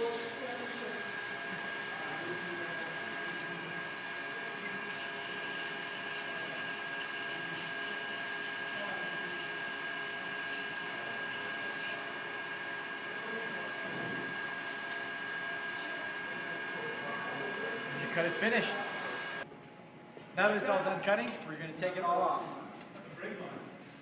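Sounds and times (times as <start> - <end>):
brake lathe motor hum and whine: 0.0 - 19.5.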